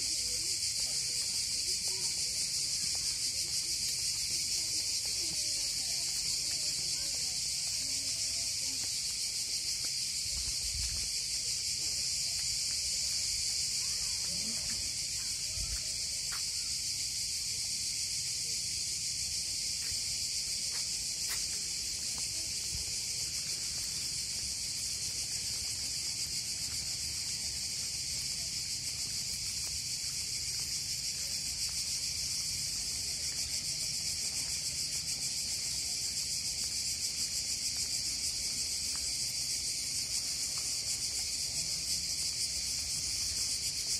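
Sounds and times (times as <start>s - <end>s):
cicadas buzzing: 0.0s - 43.9s.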